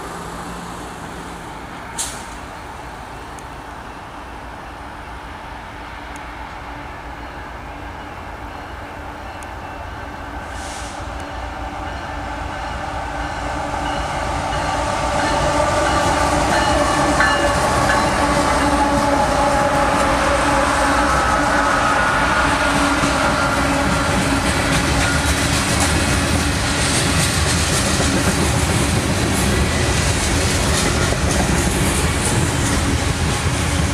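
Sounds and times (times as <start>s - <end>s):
diesel locomotive engines: 0.0s - 33.9s
freight train passing: 0.0s - 33.9s.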